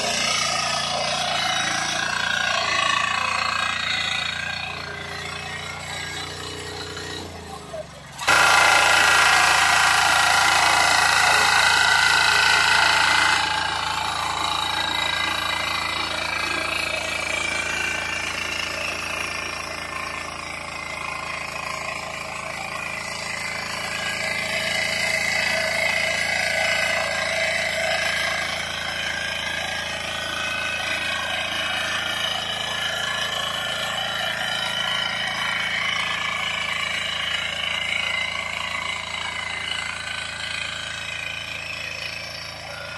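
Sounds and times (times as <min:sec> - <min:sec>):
tiller diesel engine running: 0:00.0 - 0:42.9.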